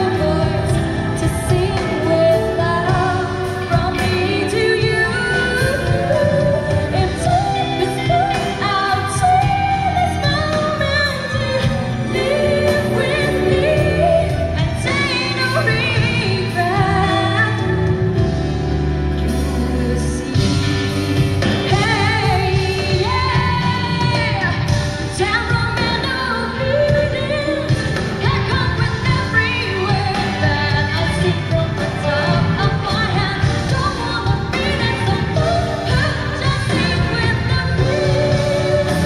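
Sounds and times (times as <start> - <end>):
band playing: 0.0 - 39.0
woman singing pop song: 0.0 - 39.0.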